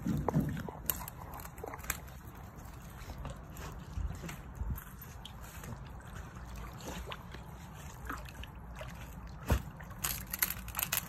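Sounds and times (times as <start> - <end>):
small water splashes: 0.0 - 11.0
water sloshing and lapping: 0.0 - 11.0.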